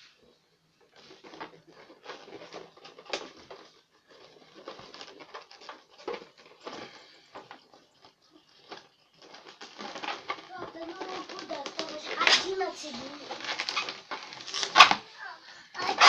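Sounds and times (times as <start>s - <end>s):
balloons squeaking and rubbing: 0.0s - 16.0s.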